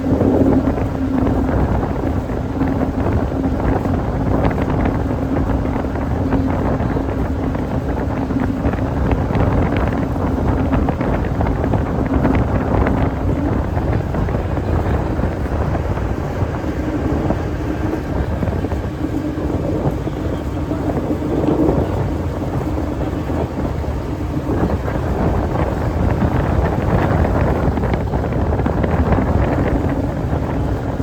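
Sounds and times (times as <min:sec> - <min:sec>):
boat engine drone: 0:00.0 - 0:31.0
wind buffeting microphone: 0:00.0 - 0:31.0.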